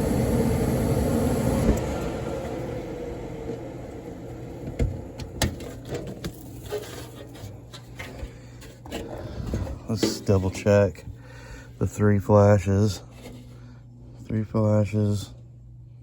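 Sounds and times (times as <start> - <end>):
furnace fan motor spinning down: 0.0 - 16.0.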